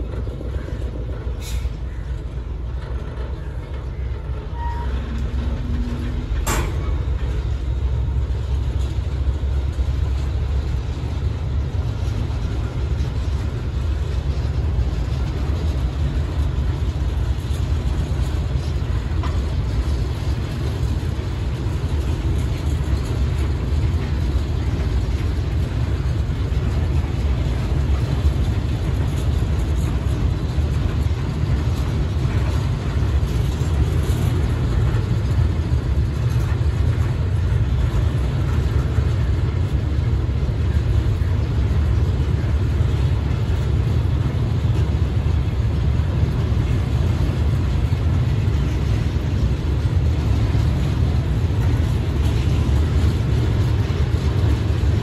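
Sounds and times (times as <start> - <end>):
diesel locomotive rumble: 0.0 - 55.0
train wheels on rails: 0.0 - 55.0.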